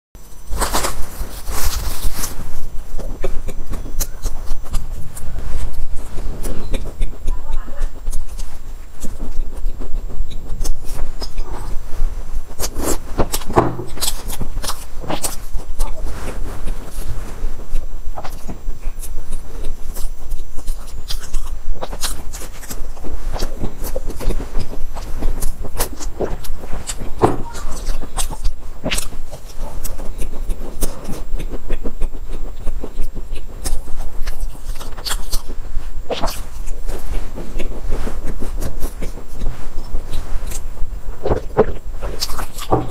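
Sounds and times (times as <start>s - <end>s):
eating soft pastries: 0.2s - 42.9s
steady low hum: 0.2s - 42.9s.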